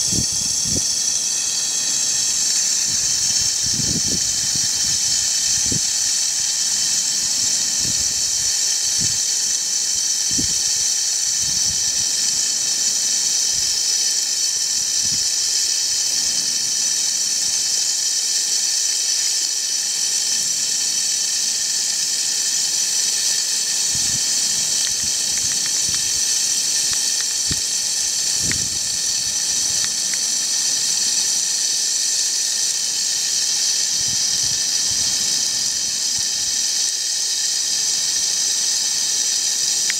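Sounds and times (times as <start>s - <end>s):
shower spray hissing: 0.0s - 39.9s.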